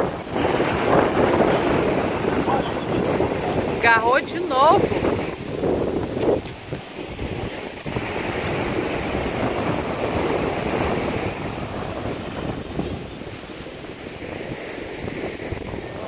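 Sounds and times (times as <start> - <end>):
ocean surf washing on beach: 0.0 - 16.0
wind buffeting microphone: 0.0 - 16.0.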